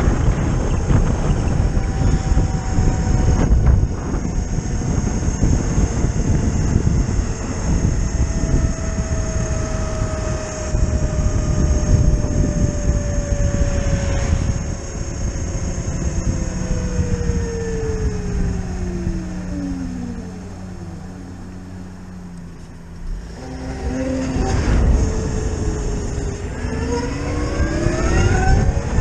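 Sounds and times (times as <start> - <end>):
electric motor whine: 0.0 - 29.0
wind buffeting microphone: 0.0 - 29.0.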